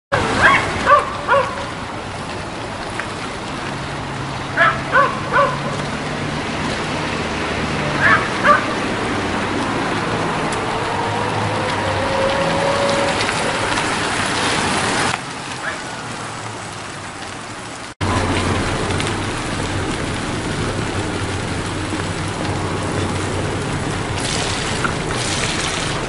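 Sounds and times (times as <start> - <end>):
golf cart motor and tyres: 0.1 - 26.0.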